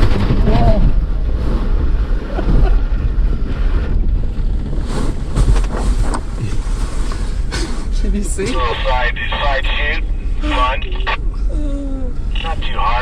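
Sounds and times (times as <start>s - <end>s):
wind buffeting microphone: 0.0s - 12.4s
engine and tyres rumbling: 0.0s - 13.0s.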